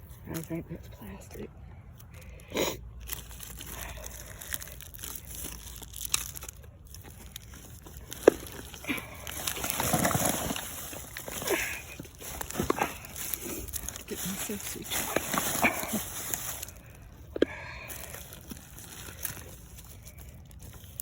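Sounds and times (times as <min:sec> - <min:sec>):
digging through debris by hand: 0:03.0 - 0:21.0.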